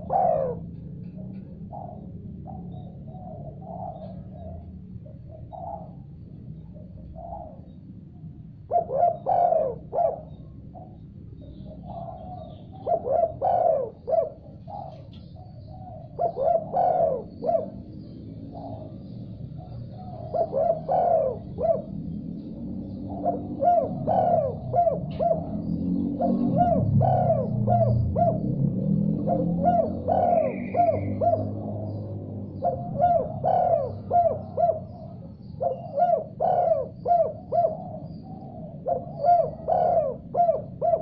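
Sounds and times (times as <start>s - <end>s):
dove cooing: 0.0s - 41.0s
low background rumble: 0.0s - 41.0s.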